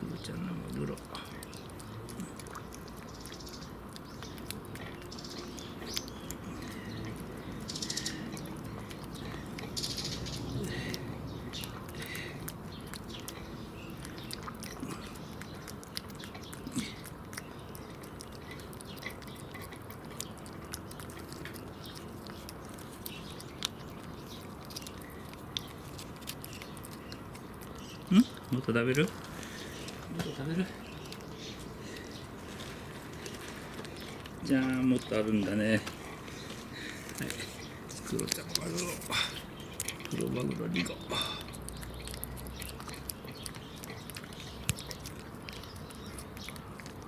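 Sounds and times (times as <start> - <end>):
animals chewing wetly: 0.0 - 47.0.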